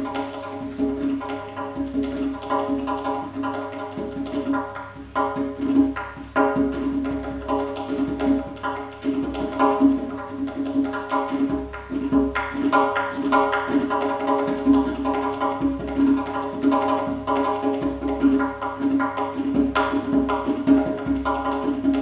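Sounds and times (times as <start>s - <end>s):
goblet drum played with fingers: 0.0s - 22.0s.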